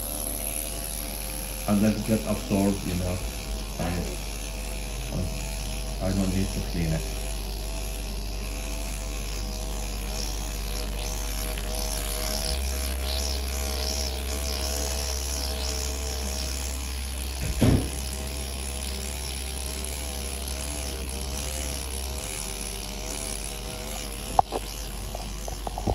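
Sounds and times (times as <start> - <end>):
microneedling pen motor buzzing: 0.0 - 25.9.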